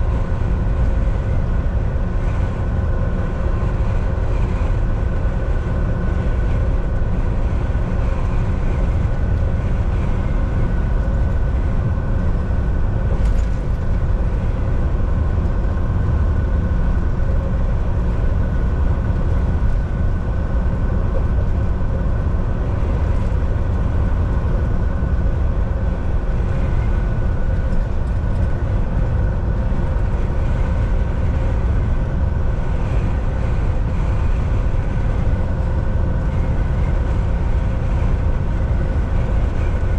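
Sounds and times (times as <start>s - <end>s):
steady hum: 0.0s - 39.9s
truck engine and road rumble: 0.0s - 39.9s.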